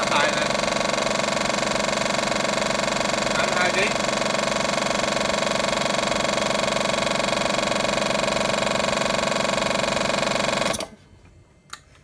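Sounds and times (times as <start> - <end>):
air compressor running: 0.0 - 11.1.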